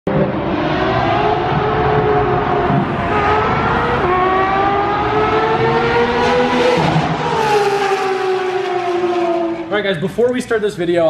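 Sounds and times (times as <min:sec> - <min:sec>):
sports car engine accelerating: 0:00.1 - 0:09.8.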